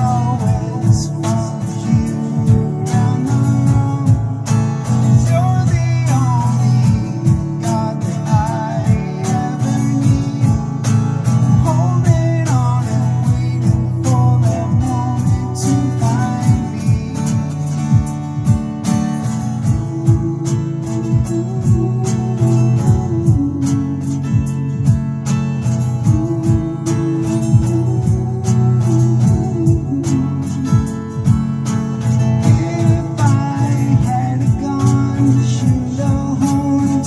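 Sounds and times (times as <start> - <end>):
strummed acoustic guitar: 0.0 - 37.0.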